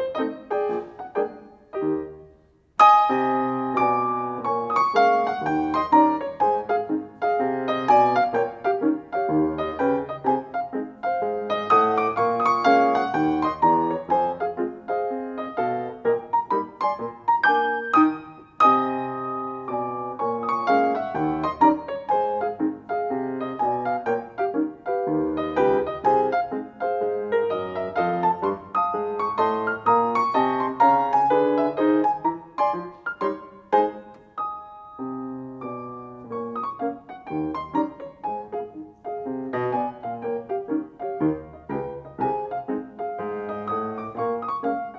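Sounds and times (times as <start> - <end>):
grand piano playing: 0.0 - 44.9.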